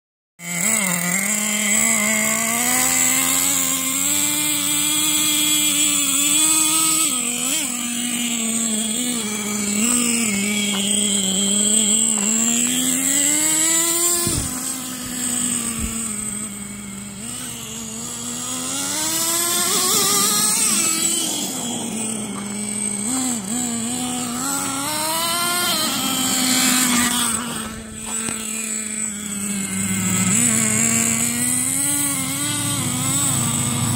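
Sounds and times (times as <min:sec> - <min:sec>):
toy truck motor whining: 0:00.4 - 0:33.9.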